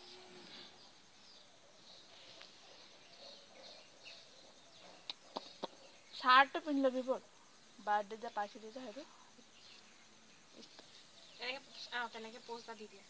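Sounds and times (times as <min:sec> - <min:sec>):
distant bird chirps: 0:00.0 - 0:13.0.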